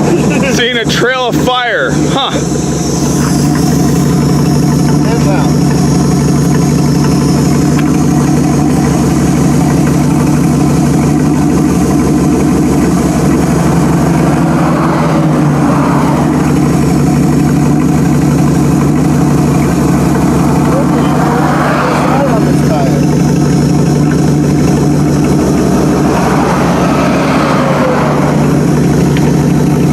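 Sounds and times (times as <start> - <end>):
vehicle engine idling: 0.0 - 29.9.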